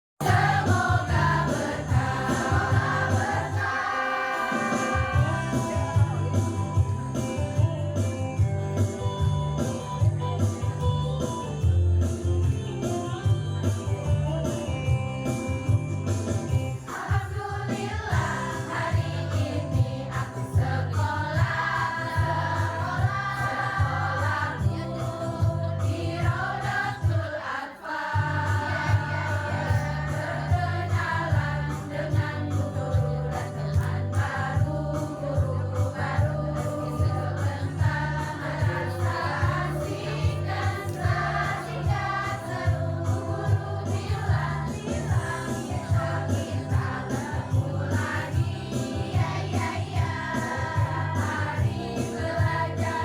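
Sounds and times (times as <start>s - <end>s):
instrumental accompaniment with bass: 0.2s - 3.6s, 4.8s - 16.9s, 18.1s - 27.2s, 28.2s - 53.0s
choir singing: 0.2s - 6.6s, 16.8s - 53.0s.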